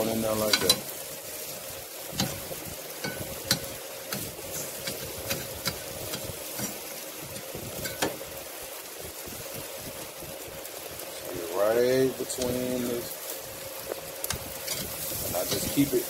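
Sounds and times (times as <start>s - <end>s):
fish sizzling on a grill: 0.0s - 16.0s.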